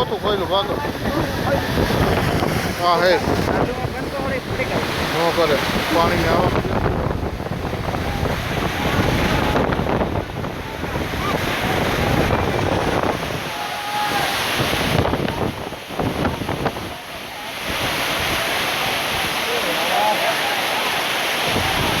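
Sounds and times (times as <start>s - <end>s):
wind buffeting microphone: 0.0s - 19.5s, 21.4s - 22.0s
faint voices: 0.0s - 22.0s
rushing floodwater: 0.0s - 22.0s.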